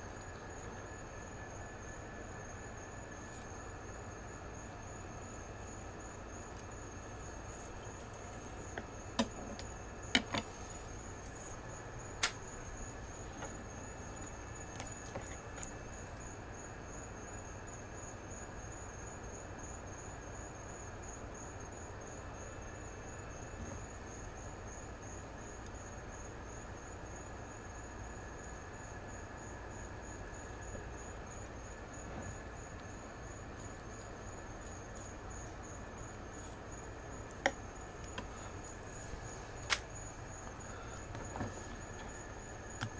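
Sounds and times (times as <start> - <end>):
cricket trilling: 0.0 - 42.9.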